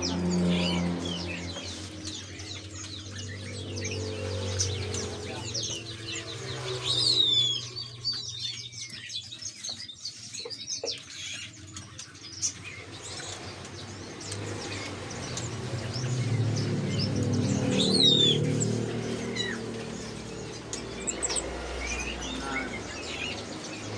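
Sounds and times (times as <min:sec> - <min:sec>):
songbirds chirping: 0:00.0 - 0:23.9.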